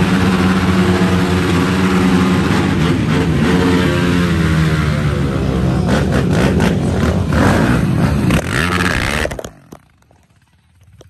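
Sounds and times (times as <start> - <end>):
engine revving loudly: 0.0 - 9.4.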